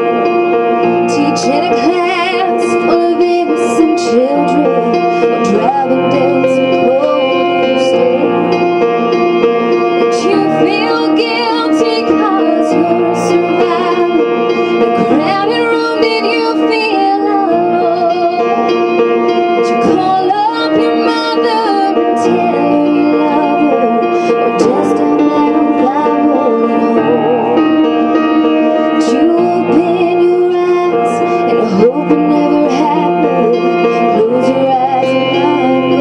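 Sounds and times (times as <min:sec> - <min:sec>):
held chords: 0:00.0 - 0:36.0
person singing slow melody: 0:01.0 - 0:36.0.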